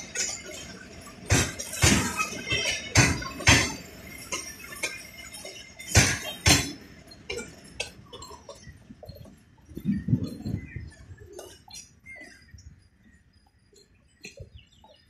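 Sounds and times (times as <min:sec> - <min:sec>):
train wheels clattering over rail joints: 0:00.0 - 0:12.5.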